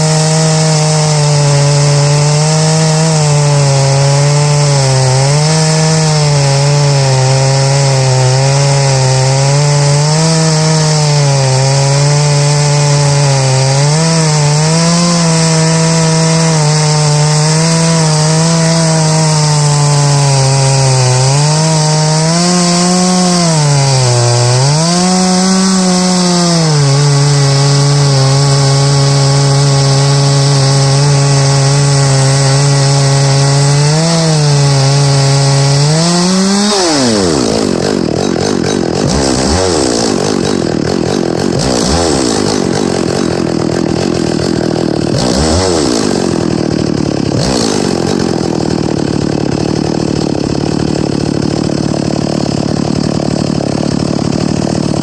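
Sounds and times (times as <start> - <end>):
chainsaw cutting log at full throttle: 0.0 - 55.0.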